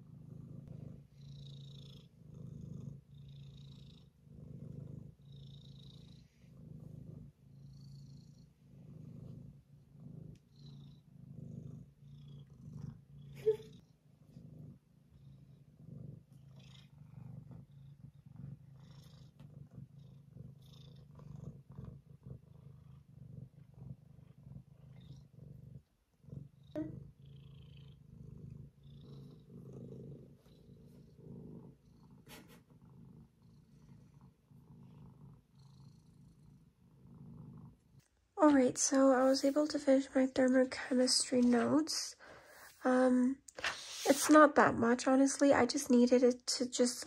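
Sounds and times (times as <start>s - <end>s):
cat purring: 0.0s - 47.0s.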